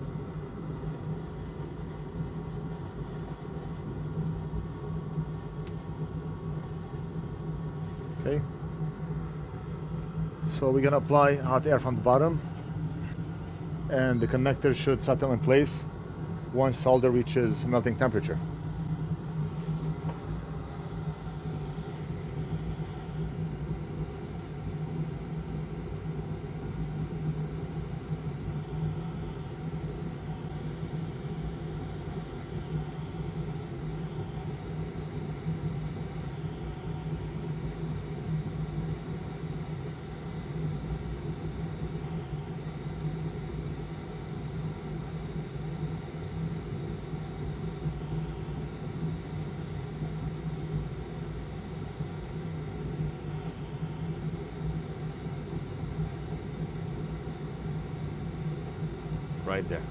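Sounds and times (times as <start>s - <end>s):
hot air station fan hum: 0.0s - 59.9s.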